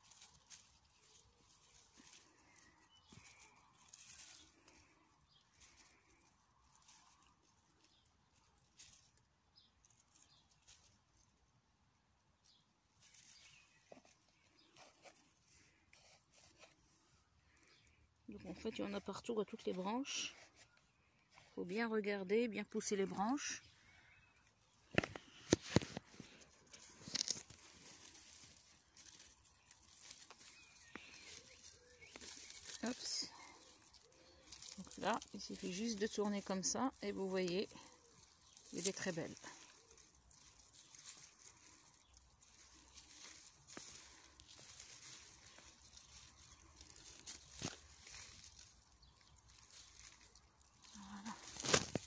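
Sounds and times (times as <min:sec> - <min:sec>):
rustling leaves: 0:00.0 - 0:52.0.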